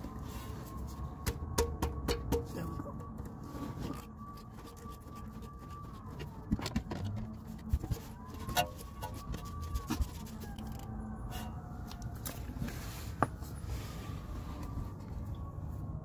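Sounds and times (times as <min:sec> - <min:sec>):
distant siren wailing: 0:00.0 - 0:16.0.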